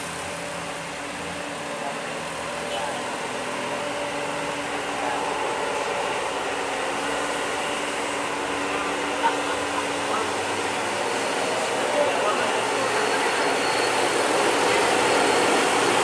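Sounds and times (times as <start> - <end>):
diesel trucks engine drone: 0.0 - 16.0.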